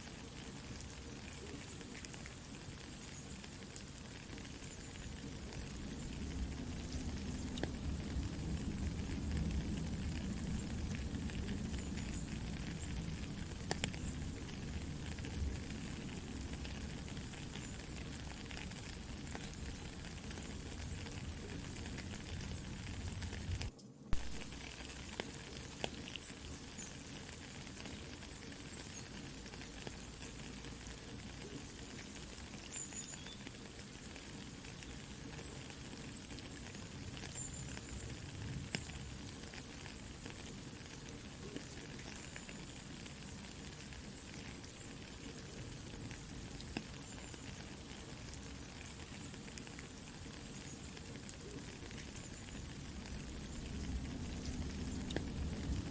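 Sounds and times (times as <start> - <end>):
campfire crackling and popping: 0.0 - 55.9
rain hiss: 0.0 - 55.9.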